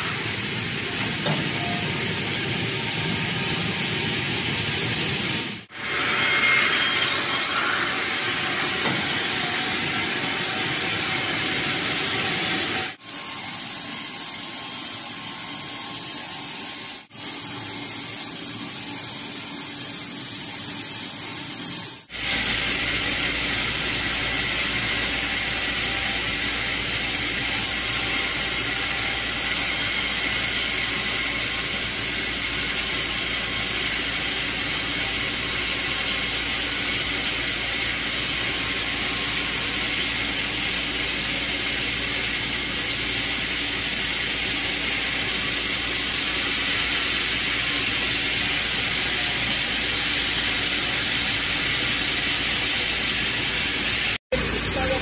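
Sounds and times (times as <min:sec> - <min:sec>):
band saw whining through log: 0:00.0 - 0:55.0.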